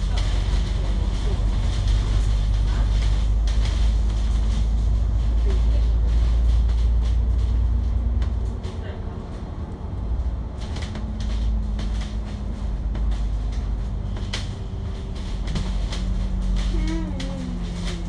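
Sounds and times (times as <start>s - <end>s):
bus engine rumbling: 0.0s - 18.0s.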